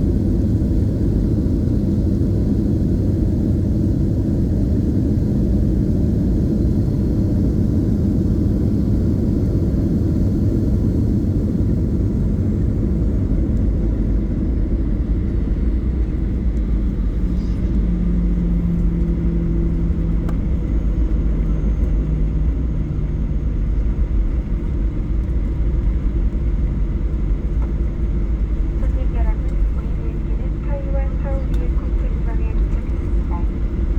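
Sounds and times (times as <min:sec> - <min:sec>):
jet cabin low rumble: 0:00.0 - 0:33.9
low engine hum: 0:00.0 - 0:33.9.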